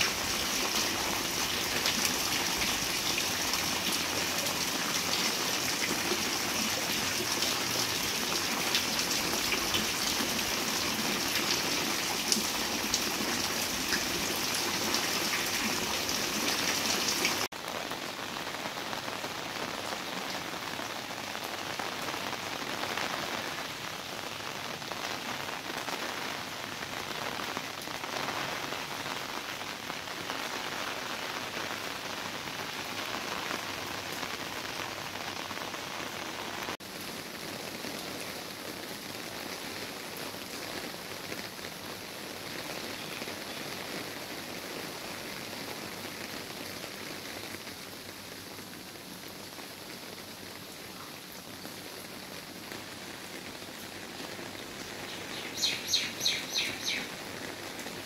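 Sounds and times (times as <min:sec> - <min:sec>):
heavy rain on paving: 0:00.0 - 0:58.0.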